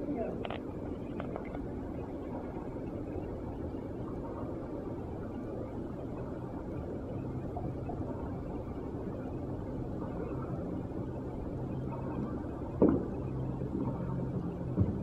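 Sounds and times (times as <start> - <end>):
low muffled hum: 0.0 - 15.0.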